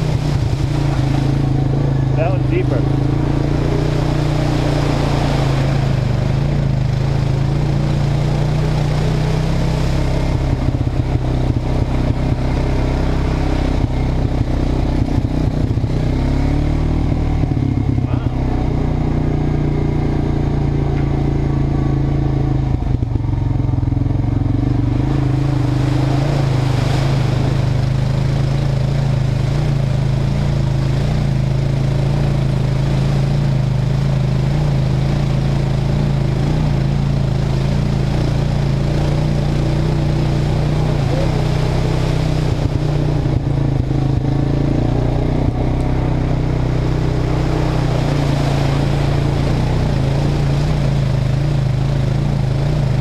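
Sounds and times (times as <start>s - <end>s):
atv engine running: 0.0s - 53.0s
water and mud splashing: 0.0s - 53.0s.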